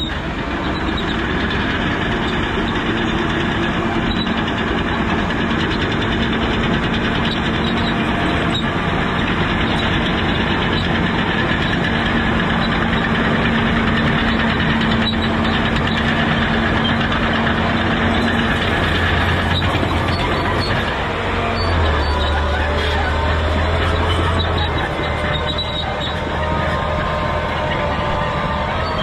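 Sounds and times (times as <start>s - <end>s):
dozer diesel engine running: 0.0s - 29.0s
excavator engine running: 0.0s - 29.0s.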